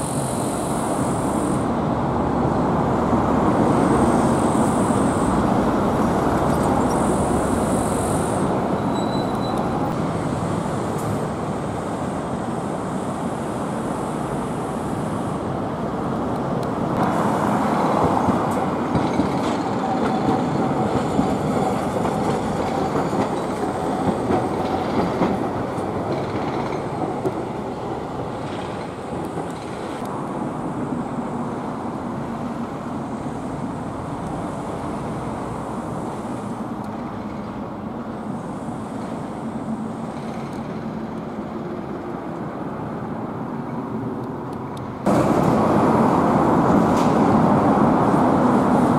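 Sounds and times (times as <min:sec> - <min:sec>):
street traffic rumble: 0:00.0 - 0:48.9.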